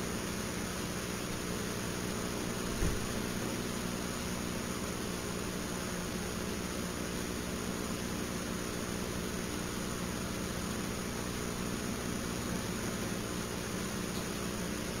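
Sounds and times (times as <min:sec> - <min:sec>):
low even hum: 0:00.0 - 0:15.0.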